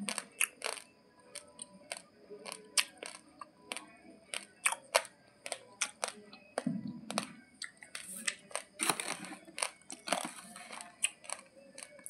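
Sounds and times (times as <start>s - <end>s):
rice grains crunched between teeth: 0.1s - 6.2s, 7.1s - 12.0s.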